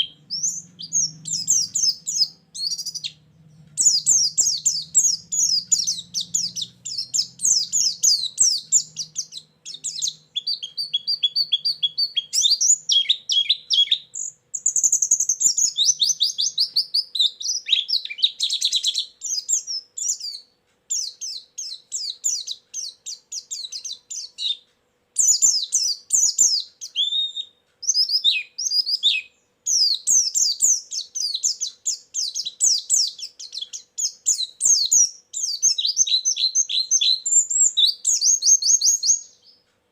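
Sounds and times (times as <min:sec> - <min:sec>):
bird chirping and twittering: 0:00.0 - 0:39.7.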